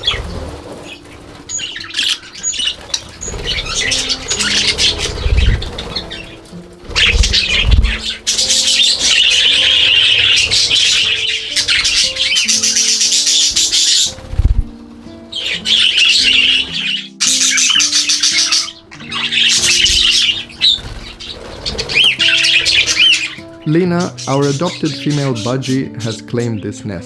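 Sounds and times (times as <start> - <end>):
wings flapping: 0.0 - 25.8
budgies chattering and chirping: 0.0 - 27.0
soft background music: 0.0 - 27.0.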